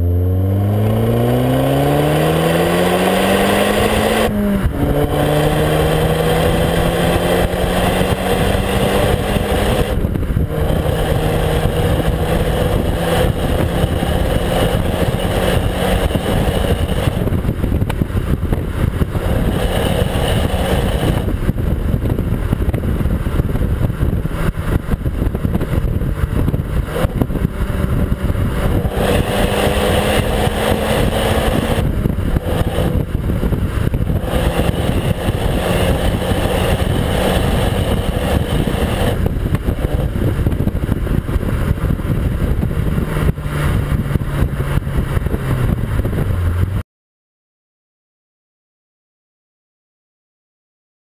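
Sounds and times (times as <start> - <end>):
car exhaust engine note: 0.0 - 46.8
road and wind noise: 0.0 - 46.8.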